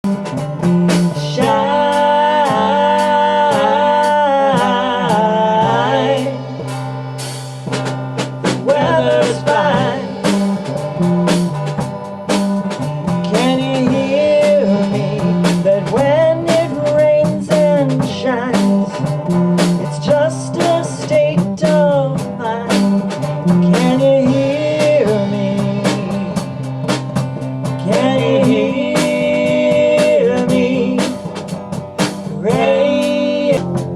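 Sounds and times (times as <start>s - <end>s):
bass guitar: 0.0s - 33.9s
drum beat: 0.0s - 33.9s
electric guitar: 0.0s - 33.9s.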